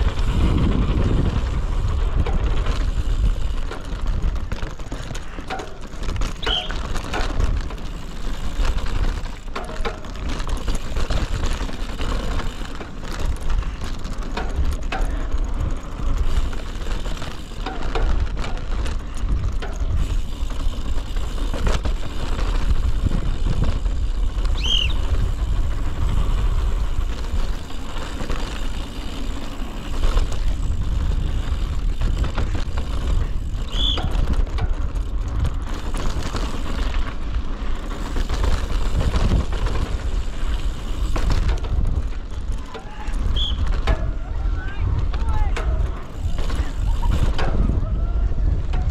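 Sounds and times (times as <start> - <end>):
bike rattling and clicking: 0.0 - 48.9
bike tyres on rough ground: 0.0 - 48.9
wind rumble on microphone: 0.0 - 48.9.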